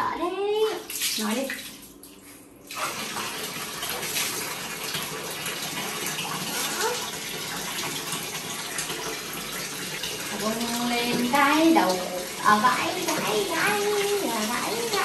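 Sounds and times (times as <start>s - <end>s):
tap water running into bathtub: 0.2s - 15.0s.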